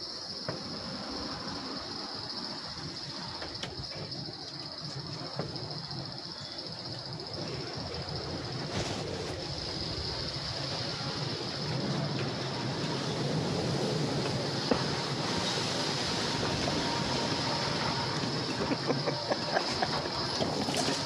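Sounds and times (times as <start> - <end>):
wind blowing: 0.0 - 21.0.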